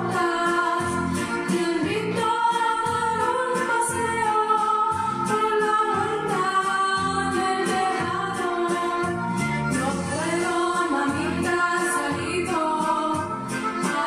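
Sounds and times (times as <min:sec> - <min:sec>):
upbeat children's song: 0:00.0 - 0:14.0.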